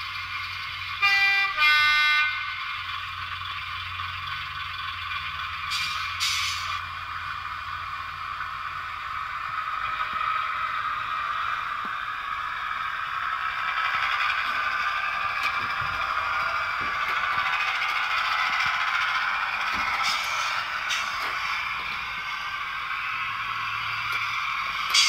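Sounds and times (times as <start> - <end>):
diesel engine through small speaker: 0.0 - 25.0.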